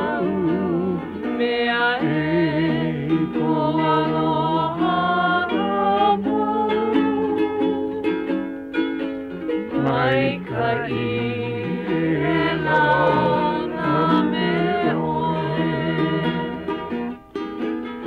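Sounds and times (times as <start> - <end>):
plucked string music: 0.0 - 18.0.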